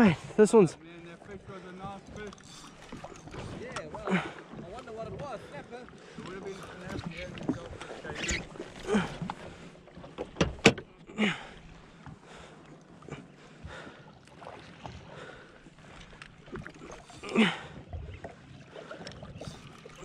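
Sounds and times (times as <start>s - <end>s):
small waves lapping on hull: 0.0s - 20.0s.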